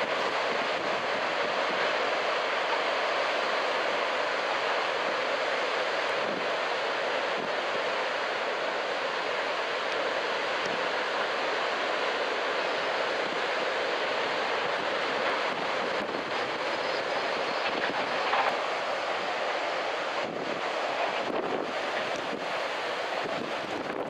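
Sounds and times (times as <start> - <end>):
ocean waves breaking: 0.0 - 24.0
strong wind: 0.0 - 24.0.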